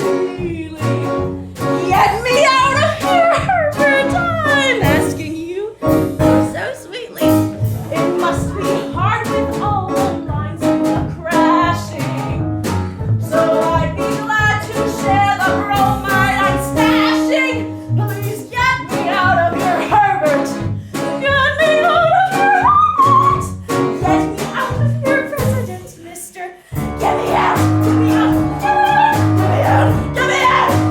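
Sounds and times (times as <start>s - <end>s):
woman singing: 0.0s - 12.5s, 13.2s - 30.9s
instrumental accompaniment: 0.0s - 26.0s, 26.7s - 30.9s.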